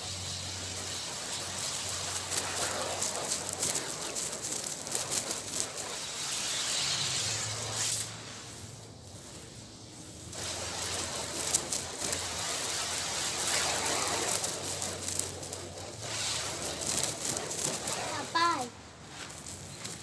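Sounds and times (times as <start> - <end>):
water jet spraying on surface: 0.0 - 8.7, 10.2 - 18.8.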